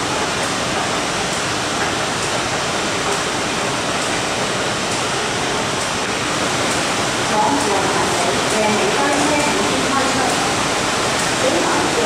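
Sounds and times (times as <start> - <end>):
metro platform rushing ambience: 0.0 - 12.0.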